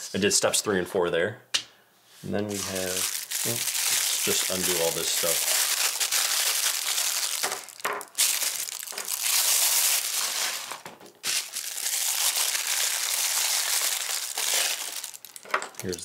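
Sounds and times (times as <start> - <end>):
plastic wrapping crinkling: 2.5 - 16.0.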